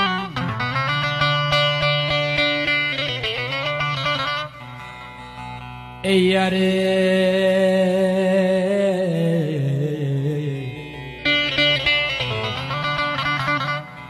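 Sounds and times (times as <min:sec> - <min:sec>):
strummed lute: 0:00.0 - 0:14.0.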